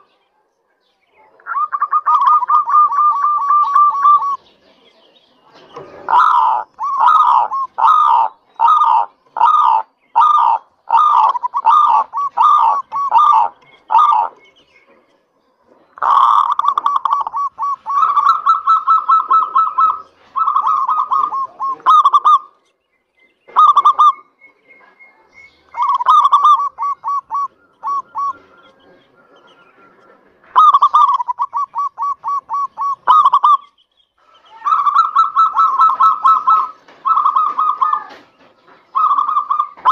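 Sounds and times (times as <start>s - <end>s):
dove cooing: 1.5s - 4.4s, 5.8s - 15.0s, 15.7s - 22.6s, 23.5s - 24.4s, 25.4s - 33.7s, 34.5s - 39.9s.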